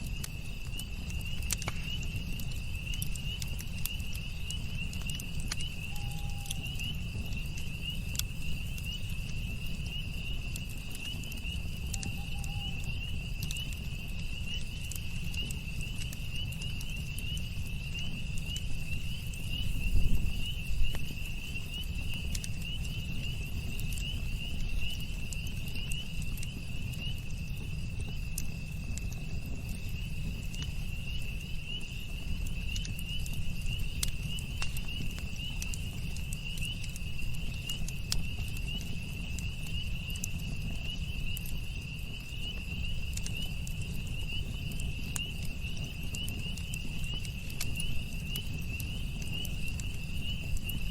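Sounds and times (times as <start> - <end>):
campfire crackling and popping: 0.0 - 50.9
insect chirring: 0.0 - 50.9.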